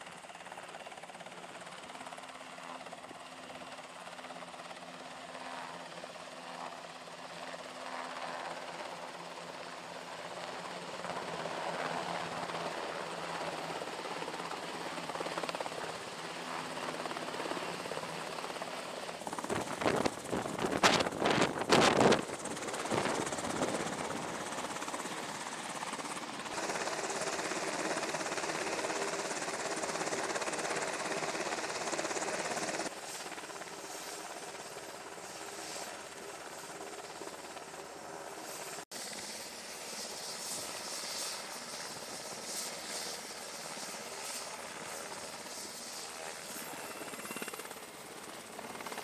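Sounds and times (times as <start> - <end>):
helicopter rotors and engines: 0.0 - 49.0.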